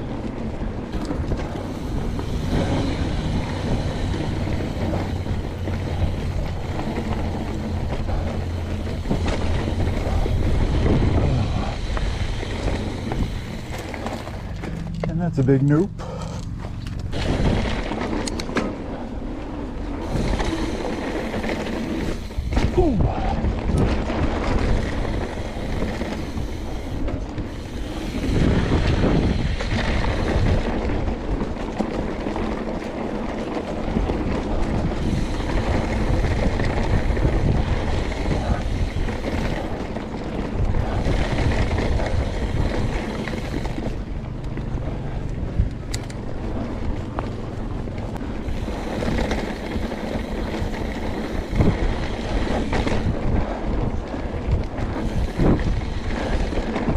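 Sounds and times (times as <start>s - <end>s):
bike tyre noise on dirt: 0.0s - 56.9s
wind rushing on microphone: 0.0s - 56.9s.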